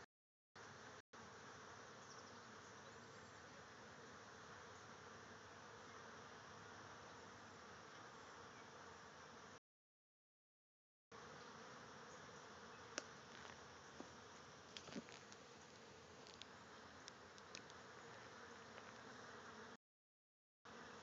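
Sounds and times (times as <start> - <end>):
flies buzzing: 0.6 - 9.6, 11.1 - 19.8, 20.7 - 21.0.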